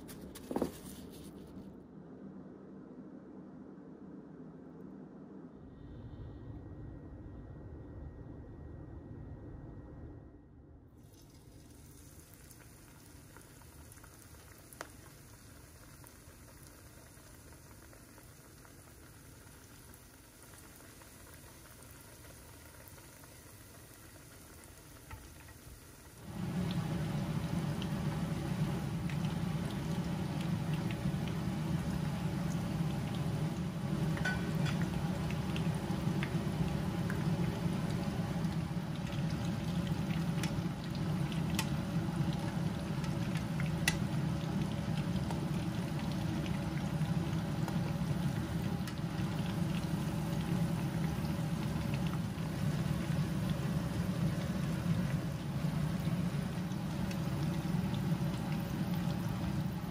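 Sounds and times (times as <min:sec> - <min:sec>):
shrimp deep-frying in oil: 0:11.0 - 0:59.9.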